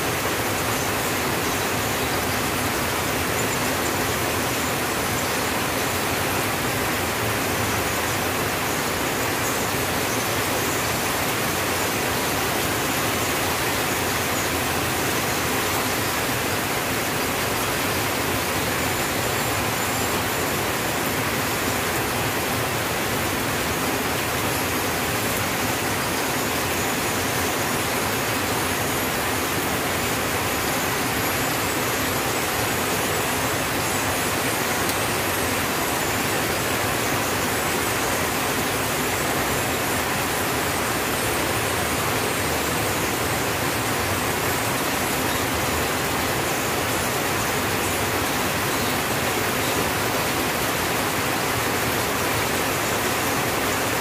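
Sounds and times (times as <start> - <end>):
rain on a tin roof: 0.0 - 54.0.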